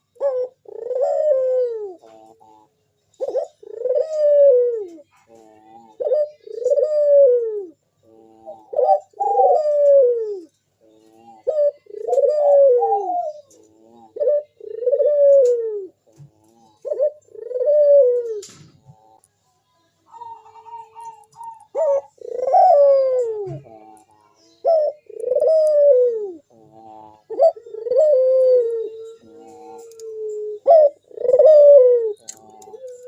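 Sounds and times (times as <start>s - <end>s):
dove cooing: 0.0s - 19.3s, 20.1s - 33.0s.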